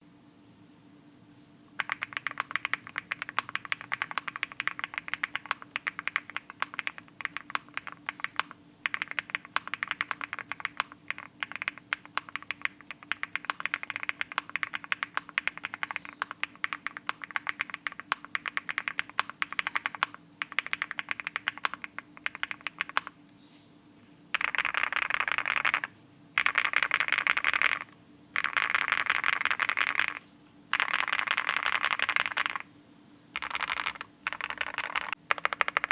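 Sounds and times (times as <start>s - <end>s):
mechanical keyboard typing: 1.8s - 23.1s, 24.4s - 32.7s, 33.4s - 35.9s.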